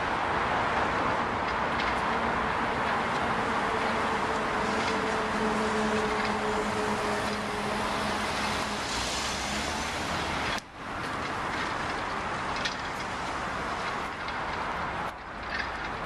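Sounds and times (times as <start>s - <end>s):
engine hum: 0.0s - 16.0s
passing cars: 0.0s - 16.0s.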